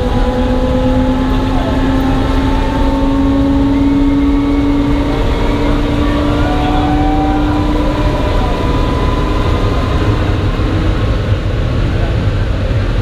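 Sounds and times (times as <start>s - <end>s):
jet engine rumbling and whining: 0.0s - 13.0s.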